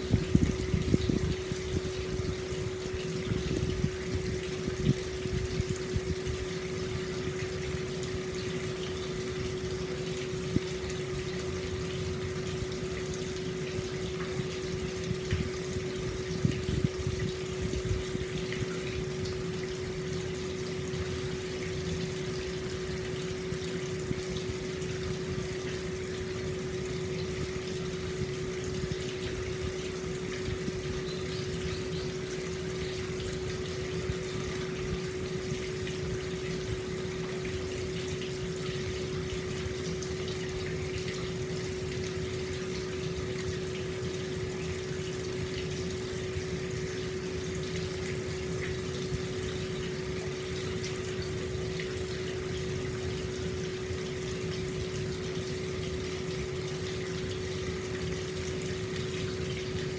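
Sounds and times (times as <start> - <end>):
steady low hum: 0.0 - 59.9
water gushing into stone bath: 0.0 - 59.9.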